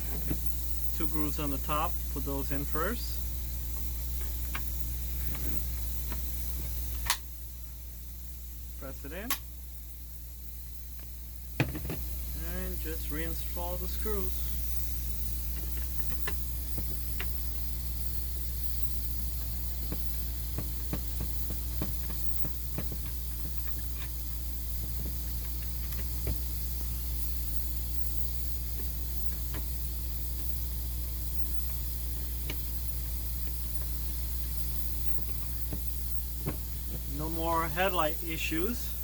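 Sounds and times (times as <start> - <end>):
electrical hum and hiss: 0.0 - 39.0.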